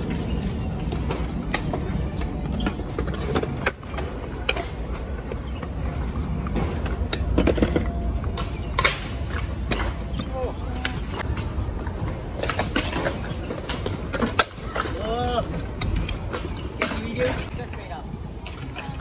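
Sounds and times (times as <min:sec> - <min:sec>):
scooter wheels rumbling on concrete: 0:00.0 - 0:19.0.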